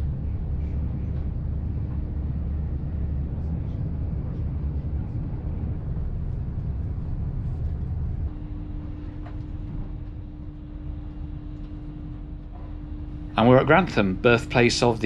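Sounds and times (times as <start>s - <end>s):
steady train hum: 0.0s - 15.0s
train rumbling in motion: 0.0s - 15.0s.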